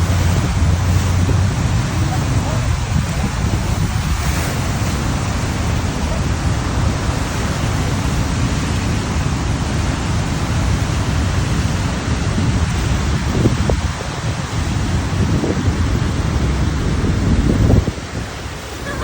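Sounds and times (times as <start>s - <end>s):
waterfall crashing: 0.0s - 19.0s.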